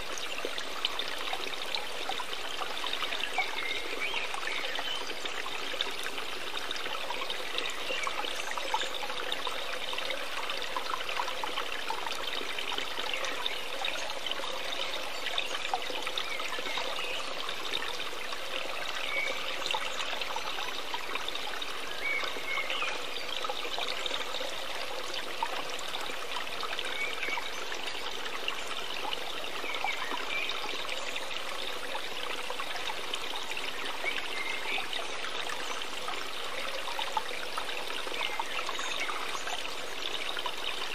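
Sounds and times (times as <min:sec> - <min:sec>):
trickling stream of water: 0:00.0 - 0:40.9.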